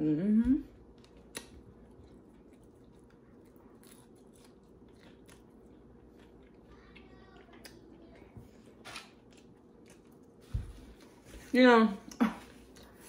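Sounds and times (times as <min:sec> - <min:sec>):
chewing crunchy food: 0:00.8 - 0:11.3.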